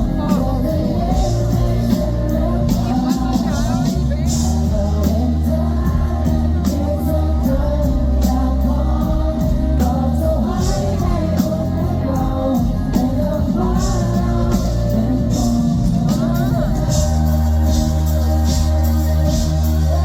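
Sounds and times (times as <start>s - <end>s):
lead vocal singing: 0.0s - 20.0s
pop-rock band playing live: 0.0s - 20.0s.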